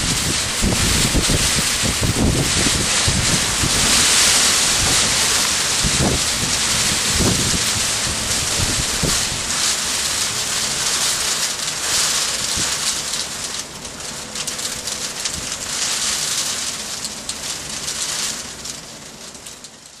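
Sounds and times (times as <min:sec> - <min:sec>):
hail striking hard surfaces: 0:00.0 - 0:20.0.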